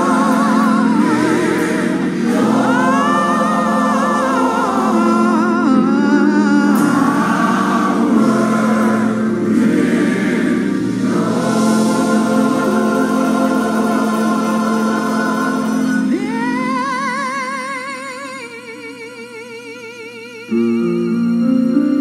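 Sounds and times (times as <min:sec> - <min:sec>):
organ chords: 0:00.0 - 0:18.2, 0:20.5 - 0:22.0
gospel choir singing: 0:00.0 - 0:19.0.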